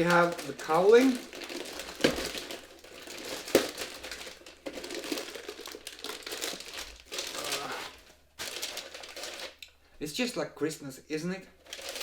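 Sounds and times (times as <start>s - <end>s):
packaging wrapping crinkling: 0.0s - 9.6s, 11.6s - 12.0s.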